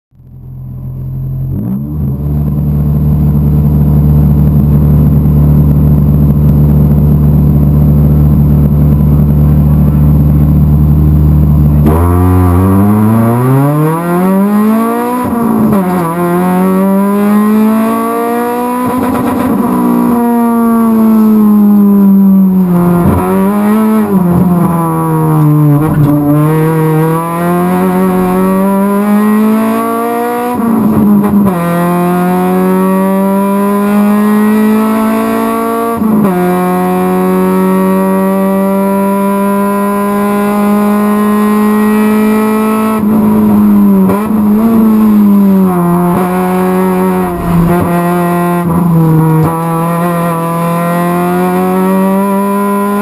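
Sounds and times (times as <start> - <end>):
race car engine revving: 1.0 - 53.0.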